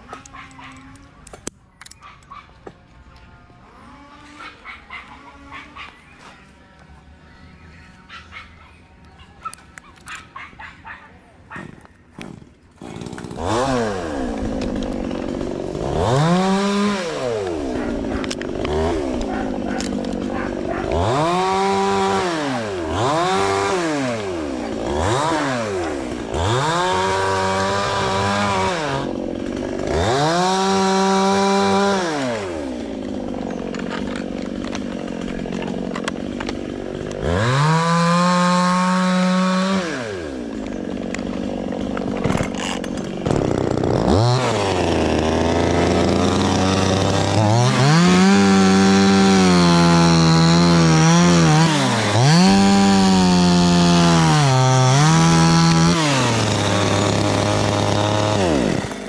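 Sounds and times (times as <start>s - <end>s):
chainsaw revving: 3.6s - 6.2s, 12.2s - 59.0s.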